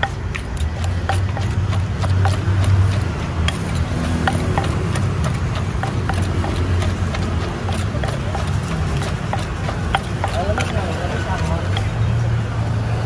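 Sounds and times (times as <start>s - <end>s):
pestle pounding in a mortar: 0.0s - 12.1s
street traffic rumble: 0.0s - 13.0s.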